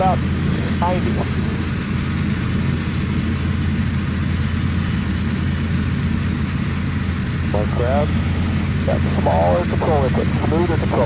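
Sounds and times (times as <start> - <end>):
aircraft engine and propeller droning: 0.0 - 11.0.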